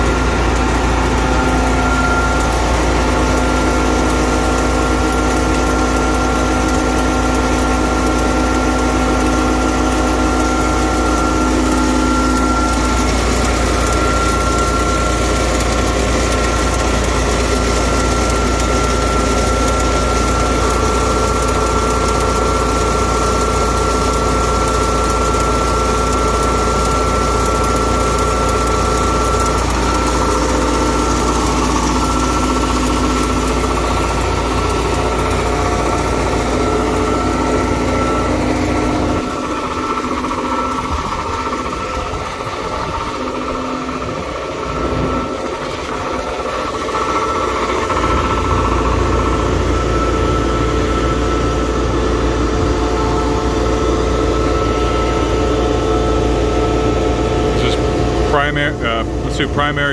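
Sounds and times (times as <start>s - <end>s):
fuel pump whine: 0.0s - 59.9s
truck engine humming: 0.0s - 59.9s.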